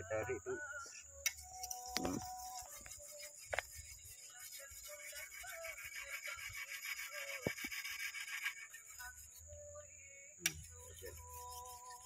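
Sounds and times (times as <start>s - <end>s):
sharpening stone on steel blade: 1.2s - 9.5s, 10.4s - 12.0s.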